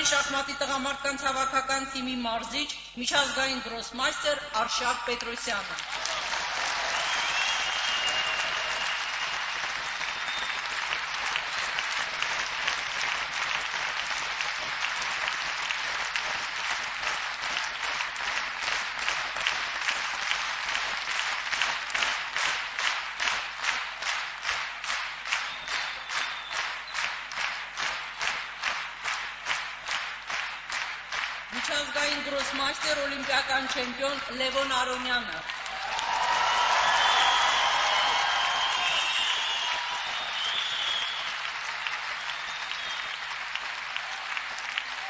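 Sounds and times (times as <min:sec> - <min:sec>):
rhythmic clapping in unison: 0:04.8 - 0:45.0
audience applauding: 0:05.7 - 0:45.0.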